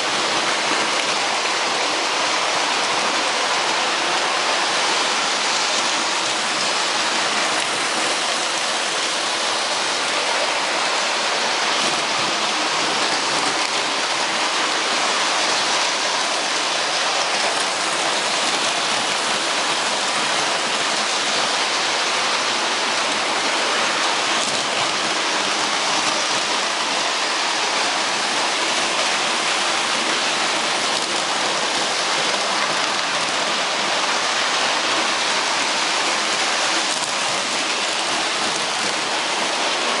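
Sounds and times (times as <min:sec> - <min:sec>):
steady rushing hiss: 0:00.0 - 0:40.0.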